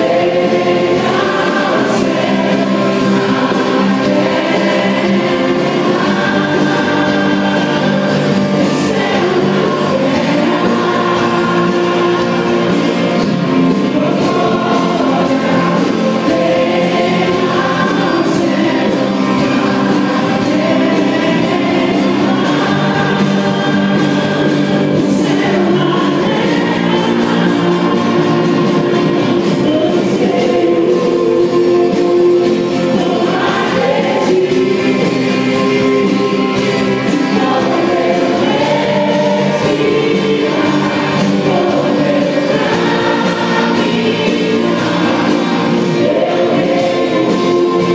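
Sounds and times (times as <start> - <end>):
sustained instrumental accompaniment: 0.0 - 47.9
voices singing together: 0.0 - 47.9.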